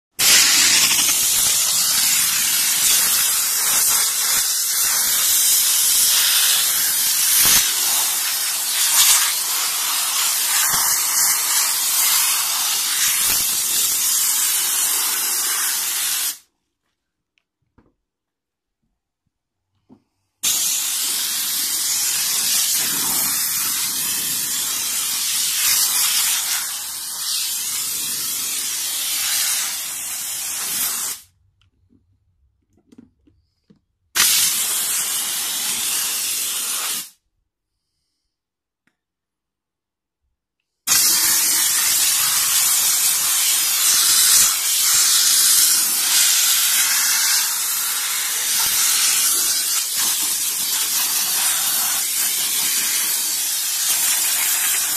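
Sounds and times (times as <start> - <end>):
steam cleaner jet hissing: 0.1 - 16.4, 20.4 - 31.2, 34.2 - 37.2, 40.9 - 54.9.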